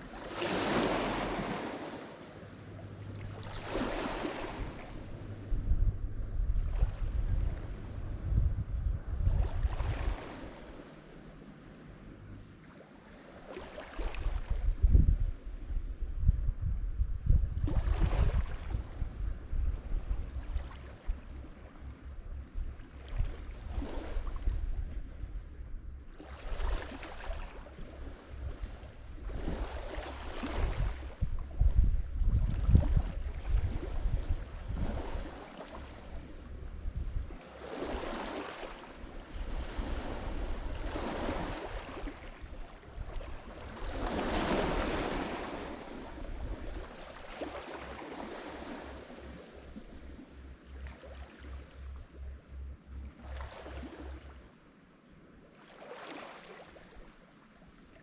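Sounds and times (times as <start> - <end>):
waves breaking on shore: 0.0 - 5.7, 6.4 - 8.2, 9.2 - 15.6, 17.6 - 19.0, 19.8 - 21.8, 22.7 - 25.4, 26.0 - 52.0, 53.0 - 54.5, 55.4 - 58.0
wind rumble on microphone: 0.0 - 54.7.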